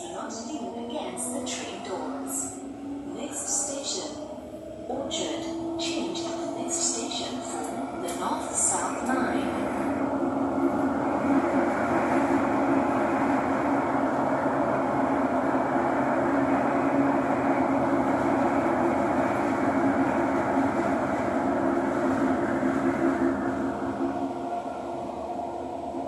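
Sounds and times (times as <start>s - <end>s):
train rumbling through tunnel: 0.0s - 26.0s.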